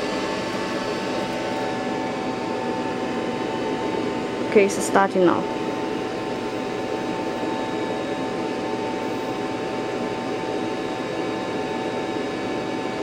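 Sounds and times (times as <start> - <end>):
high whine: 0.0 - 13.0
laser machine whirring hum: 0.0 - 13.0.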